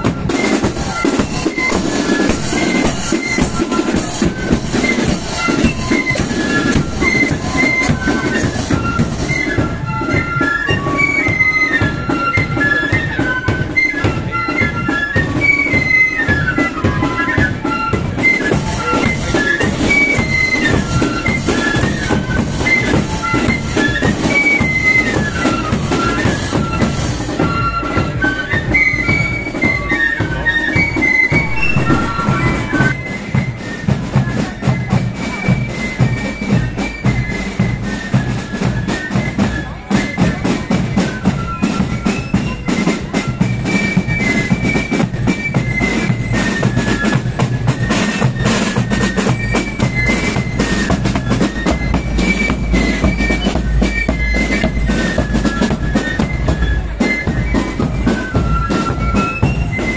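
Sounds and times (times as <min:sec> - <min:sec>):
marching flute band playing: 0:00.0 - 0:59.9
side drums: 0:00.0 - 0:59.9.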